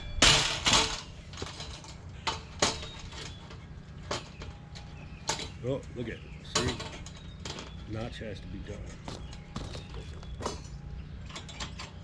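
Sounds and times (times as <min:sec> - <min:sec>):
steel panels clanking: 0:00.0 - 0:12.0.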